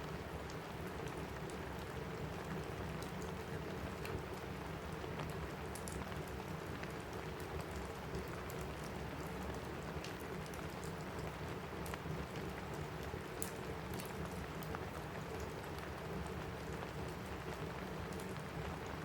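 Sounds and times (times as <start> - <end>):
rain pattering on a roof: 0.0 - 19.0
wood fire crackling: 0.0 - 19.0.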